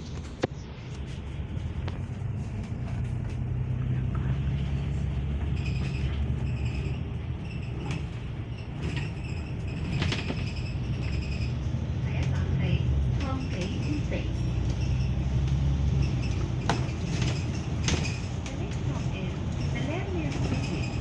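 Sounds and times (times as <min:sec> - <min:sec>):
vehicle rumble from inside: 0:00.0 - 0:21.0.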